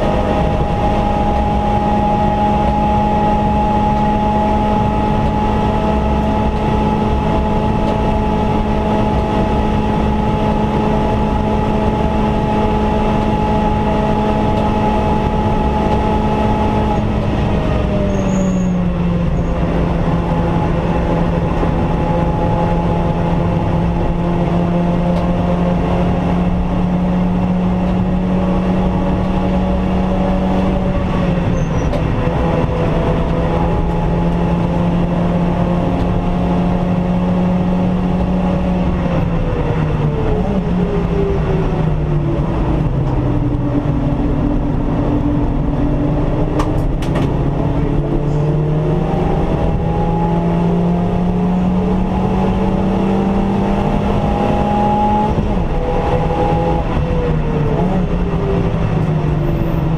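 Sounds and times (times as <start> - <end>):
car engine revving: 0.0 - 59.9
road and tyre noise: 0.0 - 59.9.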